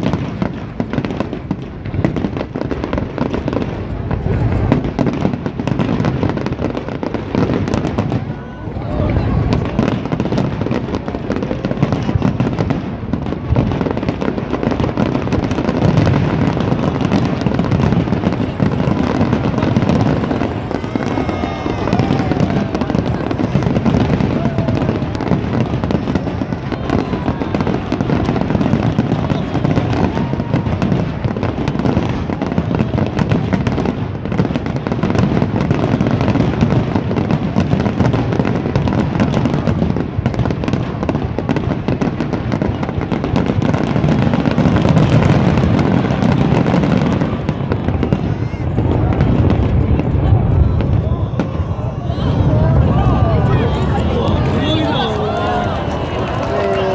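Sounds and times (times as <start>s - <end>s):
fireworks crackling barrage: 0.0s - 56.9s.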